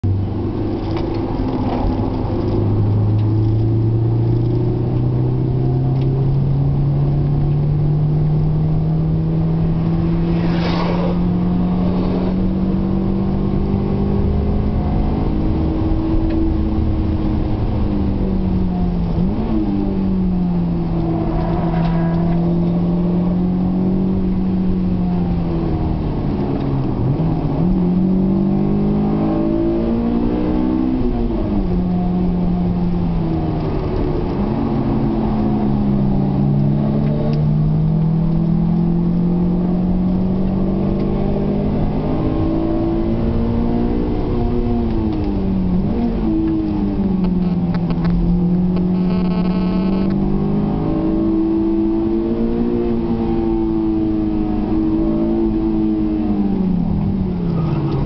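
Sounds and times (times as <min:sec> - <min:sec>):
tyre and road noise: 0:00.0 - 0:58.0
car engine revving: 0:00.1 - 0:58.0.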